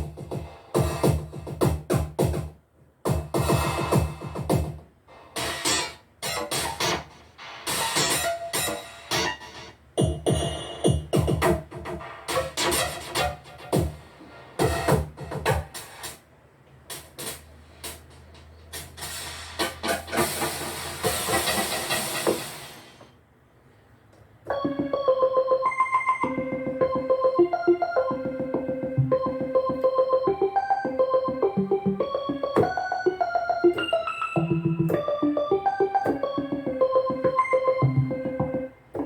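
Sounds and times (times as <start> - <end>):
synthesizer notes and chords: 0.0 - 23.1, 24.3 - 39.0.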